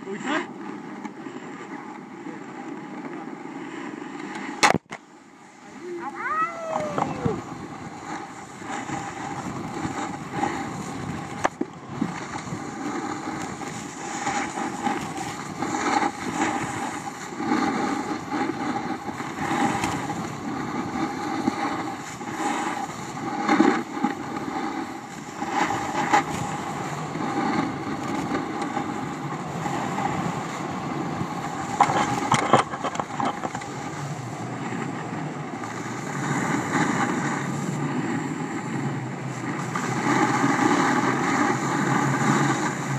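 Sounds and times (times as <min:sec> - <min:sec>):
snowboard scraping on snow: 0:00.0 - 0:42.9
wind on microphone: 0:05.8 - 0:42.9.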